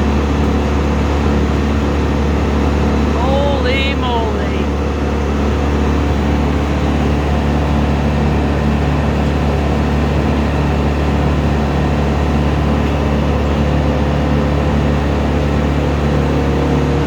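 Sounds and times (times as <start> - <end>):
heavy engine droning: 0.0 - 17.0.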